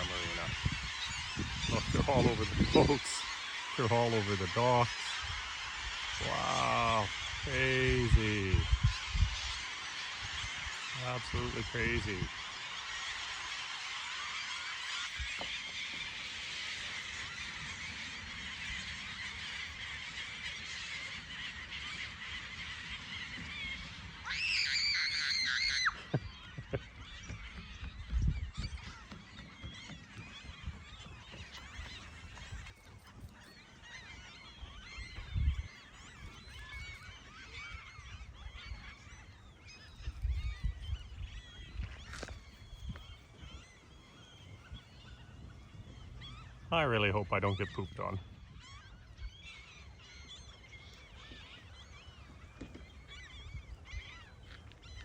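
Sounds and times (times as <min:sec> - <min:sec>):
flock of gulls calling: 0:00.0 - 0:55.0.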